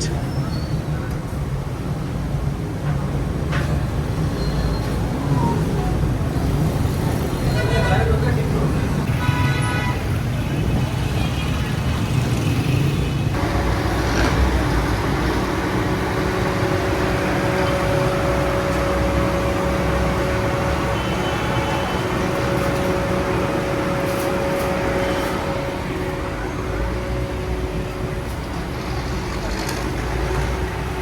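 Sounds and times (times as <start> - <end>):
vehicle engines running: 0.8 - 9.2, 10.0 - 31.0.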